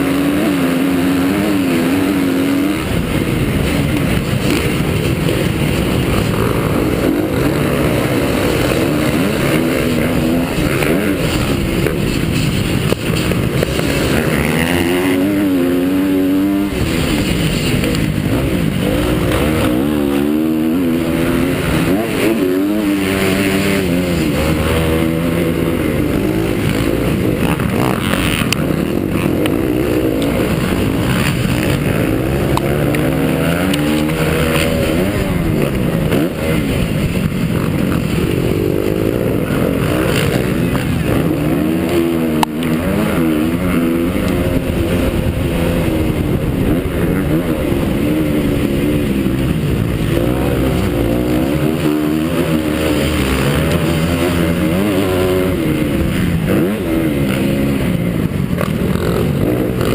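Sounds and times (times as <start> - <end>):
motocross bike engine revving: 0.0 - 59.9
wind on microphone: 1.6 - 52.5.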